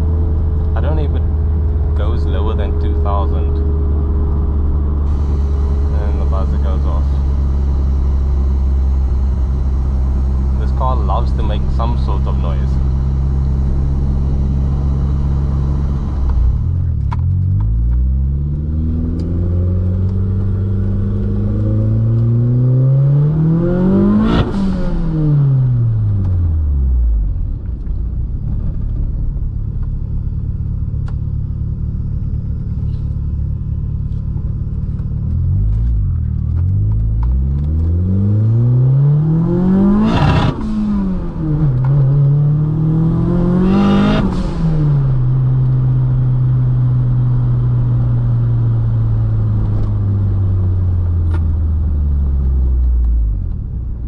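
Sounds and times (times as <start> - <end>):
car engine revving: 0.0 - 53.4.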